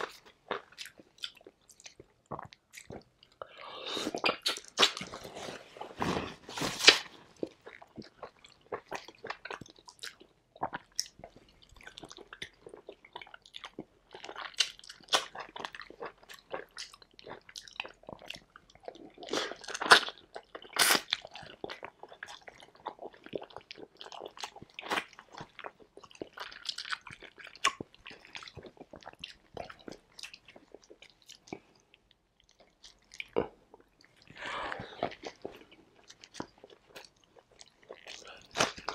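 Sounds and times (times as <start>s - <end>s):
chewing with mouth clicks: 0.0s - 5.2s, 7.4s - 38.9s.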